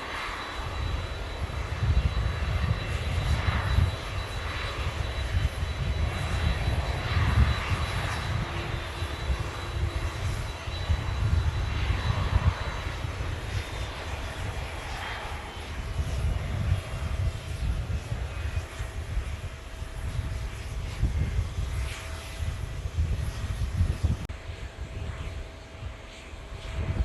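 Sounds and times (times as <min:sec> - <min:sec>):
faint high whine: 0:00.0 - 0:27.0
jet engines rumbling: 0:00.0 - 0:27.0.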